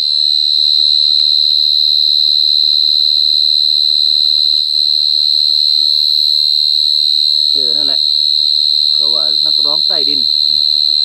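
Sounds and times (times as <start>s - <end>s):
cricket high-pitched trill: 0.0s - 11.0s.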